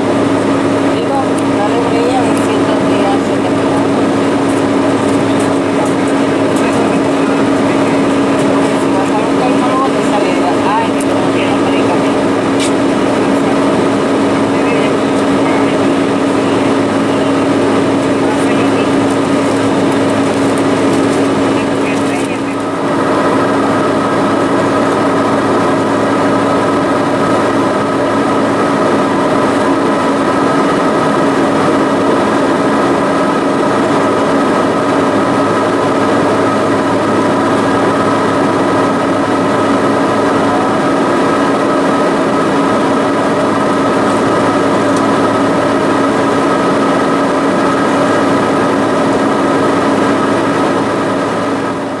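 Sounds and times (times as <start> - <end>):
jet engine drone: 0.0 - 52.0.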